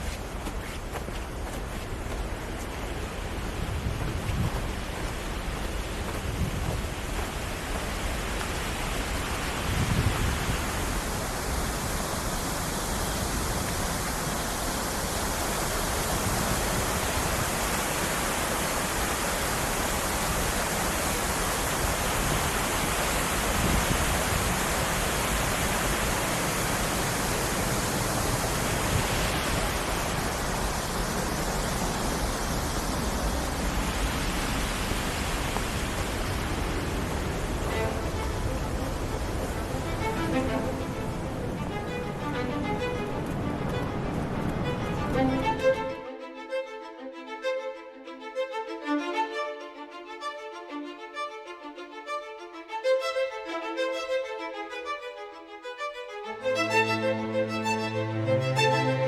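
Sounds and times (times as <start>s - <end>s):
waterfall rushing: 0.0s - 46.6s, 56.2s - 59.0s.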